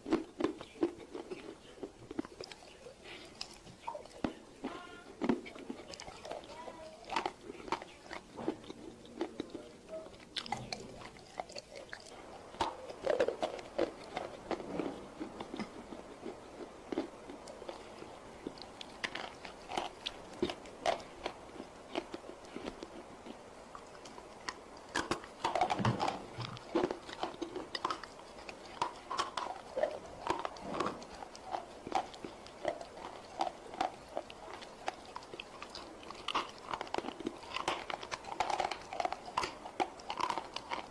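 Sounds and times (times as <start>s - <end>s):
chewing crunchy clay: 0.0s - 40.9s.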